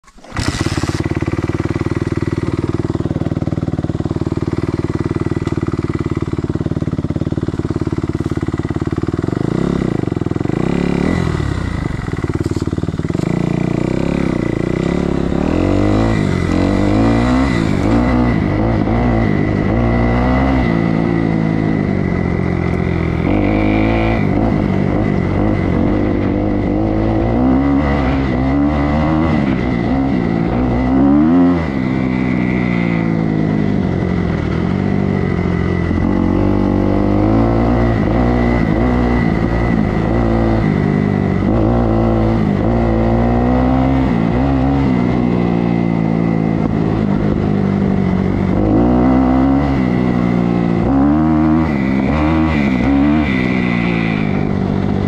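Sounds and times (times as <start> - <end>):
motorbike engine idling and revving: 0.0 - 55.0.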